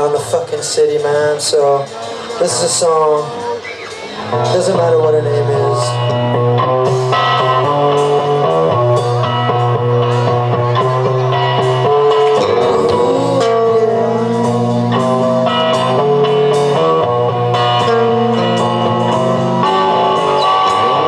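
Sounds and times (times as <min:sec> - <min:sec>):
bass: 0:00.0 - 0:21.0
drums: 0:00.0 - 0:21.0
electric guitars ringing: 0:00.0 - 0:21.0.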